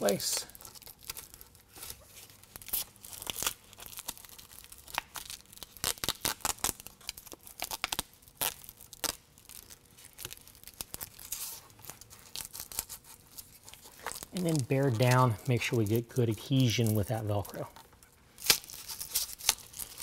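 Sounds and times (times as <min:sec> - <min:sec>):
backing liner peeling and crinkling: 0:00.0 - 0:20.0.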